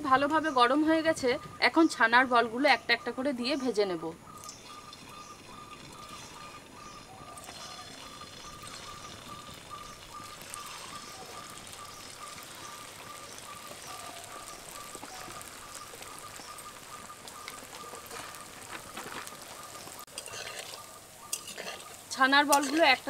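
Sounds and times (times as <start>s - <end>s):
frying oil sizzling: 4.4s - 23.0s.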